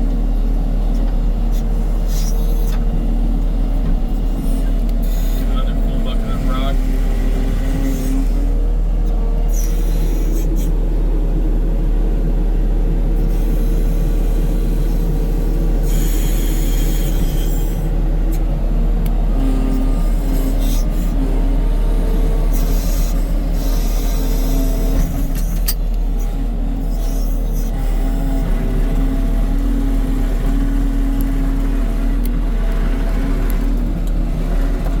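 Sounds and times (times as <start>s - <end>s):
skid steer engine running: 0.0s - 35.0s.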